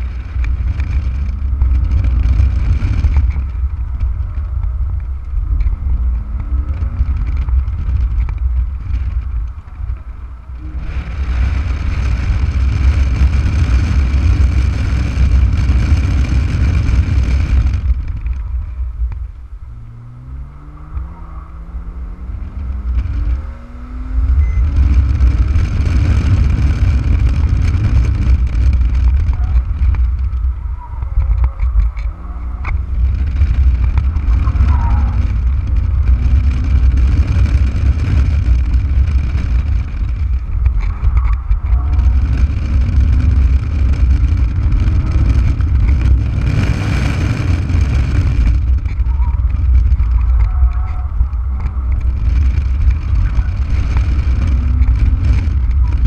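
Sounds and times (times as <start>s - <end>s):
car engine revving on track: 0.0s - 56.0s
wind rumble on microphone: 0.0s - 56.0s.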